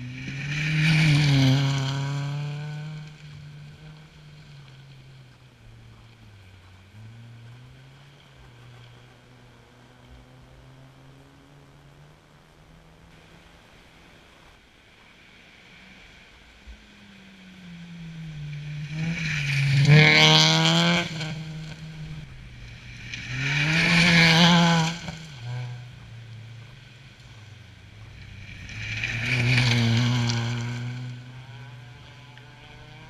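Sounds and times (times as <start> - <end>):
rally car engine at full throttle: 0.0 - 33.0.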